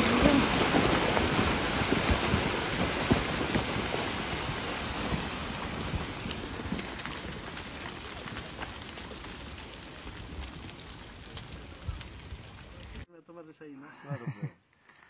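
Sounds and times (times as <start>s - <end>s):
rumble of tumbling rock: 0.0s - 13.1s.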